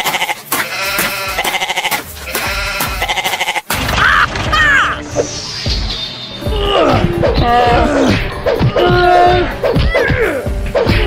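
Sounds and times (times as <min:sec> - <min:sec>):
upbeat cartoon music: 0:00.0 - 0:11.0.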